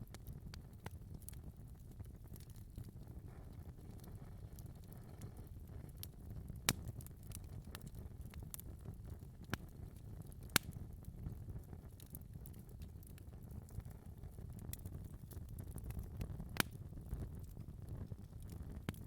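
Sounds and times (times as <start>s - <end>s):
fire crackles and pops: 0.0s - 19.0s
low rumble of flames: 0.0s - 19.0s.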